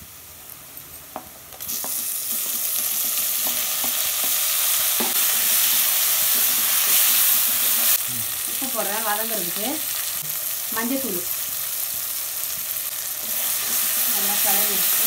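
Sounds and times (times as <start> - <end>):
tomatoes frying sizzle: 0.0 - 15.0.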